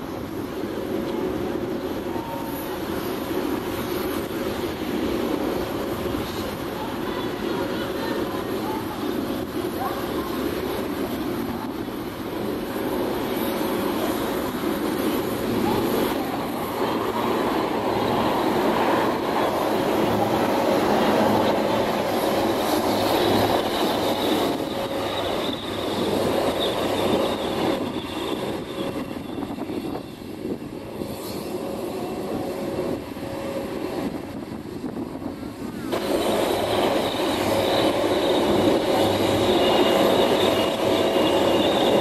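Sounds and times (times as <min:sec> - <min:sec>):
helicopters flying overhead: 0:00.0 - 0:42.0.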